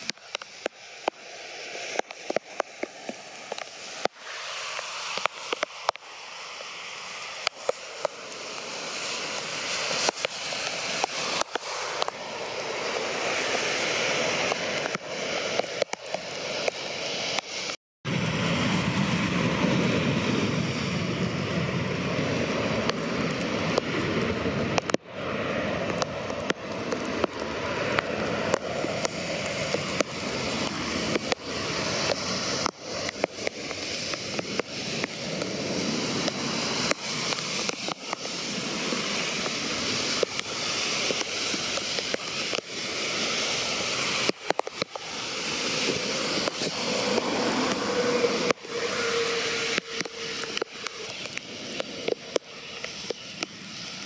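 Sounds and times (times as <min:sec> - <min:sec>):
raindrops ticking close by: 0:00.0 - 0:17.8, 0:22.4 - 0:54.0
heavy pouring rain: 0:00.0 - 0:54.0.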